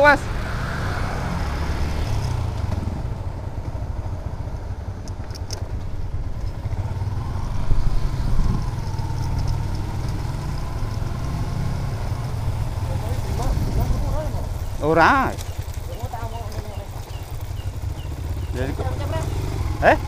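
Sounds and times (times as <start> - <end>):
motorcycle engine and road rumble: 0.0 - 20.0.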